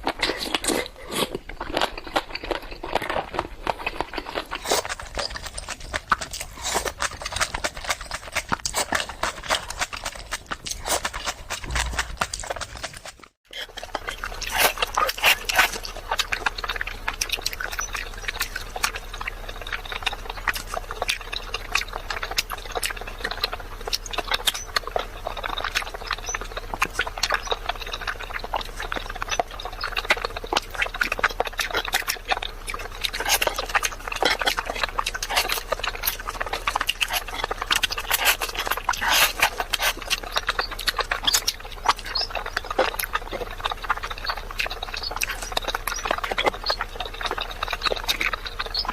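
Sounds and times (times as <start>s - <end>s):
wet chewing and slurping: 0.0s - 48.9s.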